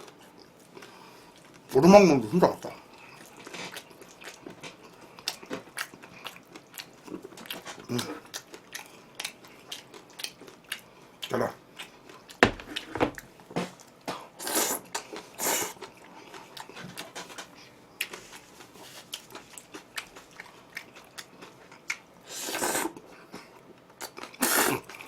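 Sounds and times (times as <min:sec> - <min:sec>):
person chewing and crunching food: 0:02.6 - 0:25.0.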